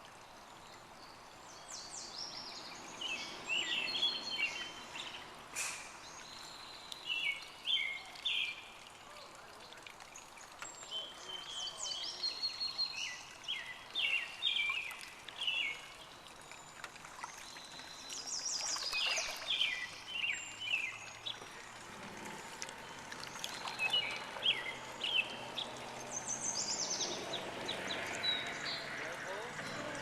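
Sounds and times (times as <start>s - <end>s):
moving water: 0.0s - 30.0s
songbirds singing: 0.0s - 30.0s.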